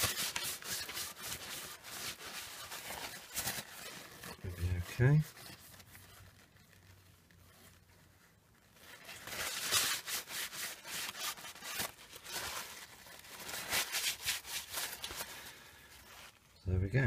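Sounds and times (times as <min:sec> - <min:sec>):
paper towel rubbing on metal: 0:00.0 - 0:16.4.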